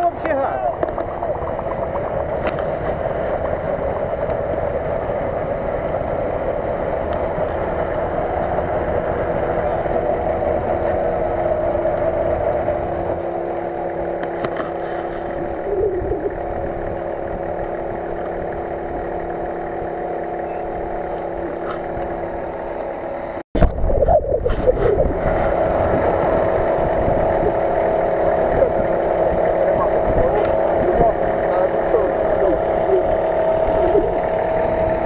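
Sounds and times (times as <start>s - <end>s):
engine running at low revs: 0.0s - 35.0s.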